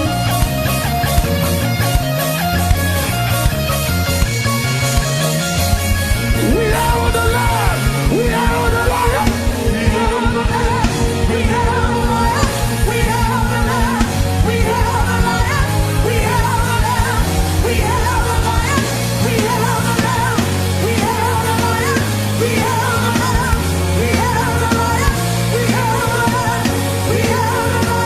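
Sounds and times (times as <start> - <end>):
band playing fast beat: 0.0 - 28.0
voices singing: 5.1 - 28.0.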